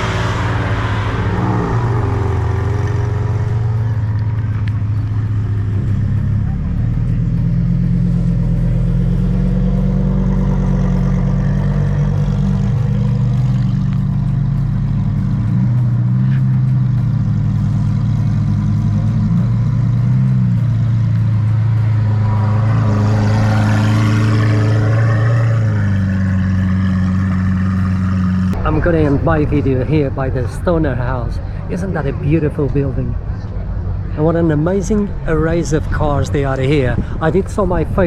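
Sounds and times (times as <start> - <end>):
car engine running: 0.0 - 38.0.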